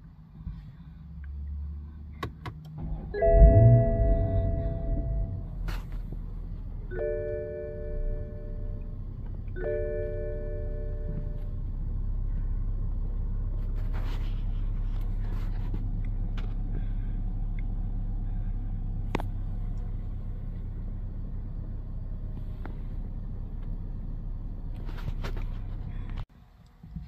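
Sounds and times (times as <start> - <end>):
car engine idling: 2.1 - 26.8.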